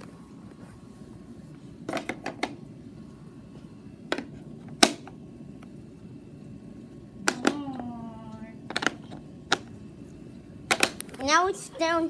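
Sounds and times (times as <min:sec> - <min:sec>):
low steady background: 0:00.0 - 0:12.0.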